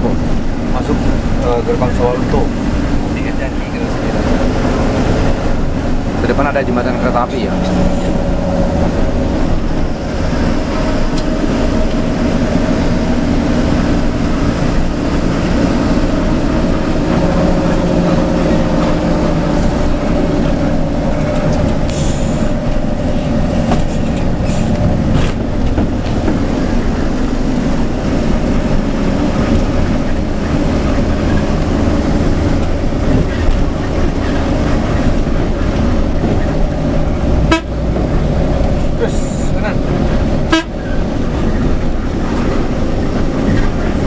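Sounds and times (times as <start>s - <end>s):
bus diesel engine drone: 0.0s - 44.0s
tyre and road noise: 0.0s - 44.0s.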